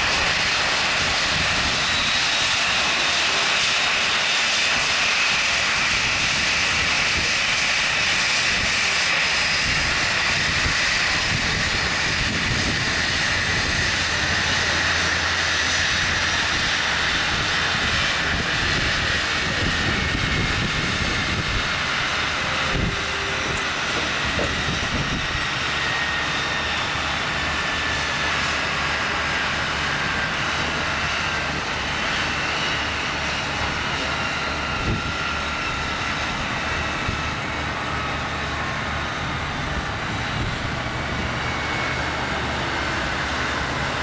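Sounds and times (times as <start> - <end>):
jet engines idling: 0.0 - 44.0.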